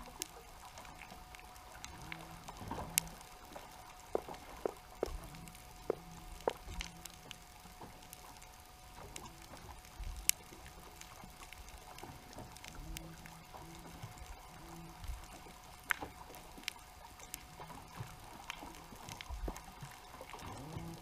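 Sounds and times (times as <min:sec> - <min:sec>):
faint underwater hum: 0:00.0 - 0:21.0.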